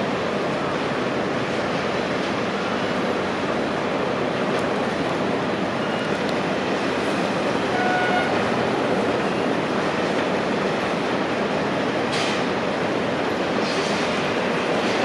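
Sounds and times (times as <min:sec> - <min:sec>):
heavy construction machinery: 0:00.0 - 0:15.0.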